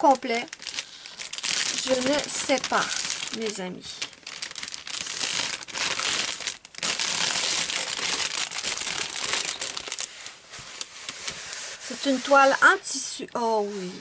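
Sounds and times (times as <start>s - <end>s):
plastic wrapping crinkling: 0.0s - 12.8s.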